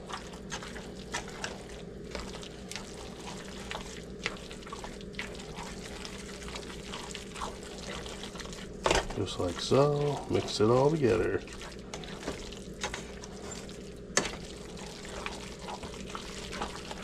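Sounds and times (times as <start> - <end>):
low steady hum: 0.0 - 17.0
utensil stirring thick mixture: 0.0 - 17.0.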